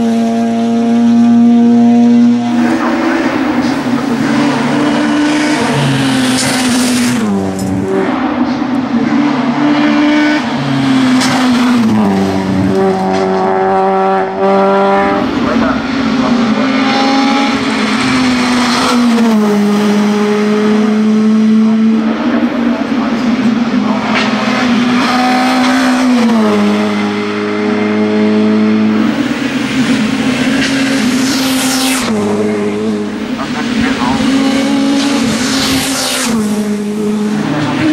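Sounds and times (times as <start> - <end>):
race car engine at high revs: 0.0 - 37.9.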